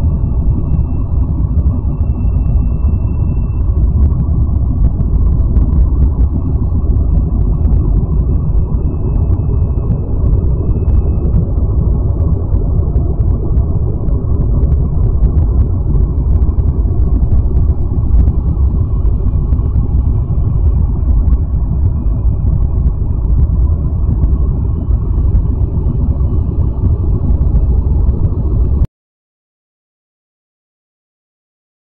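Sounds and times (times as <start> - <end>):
deep rumbling drone: 0.0 - 28.9.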